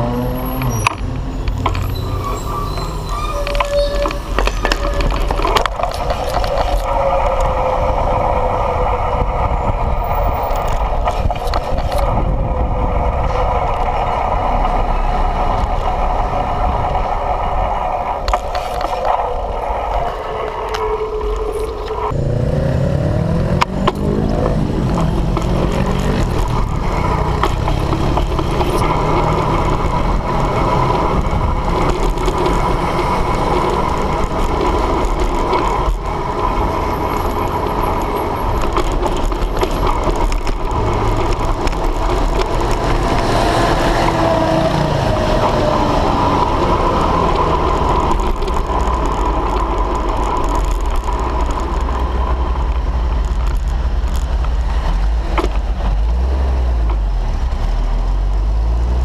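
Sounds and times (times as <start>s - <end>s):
engine revving as vehicle speeds up: 0.0s - 59.0s
vehicle engines running: 0.0s - 59.0s
wind and road noise: 0.0s - 59.0s.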